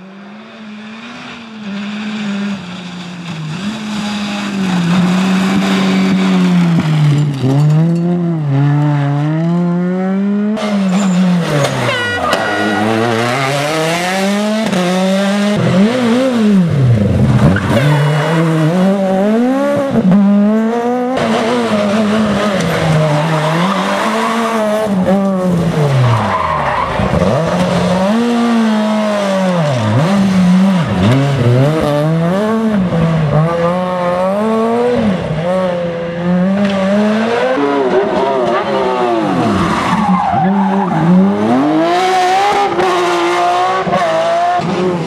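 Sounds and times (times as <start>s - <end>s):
rally car engines revving: 0.0s - 45.0s
tyres skidding: 0.2s - 45.0s.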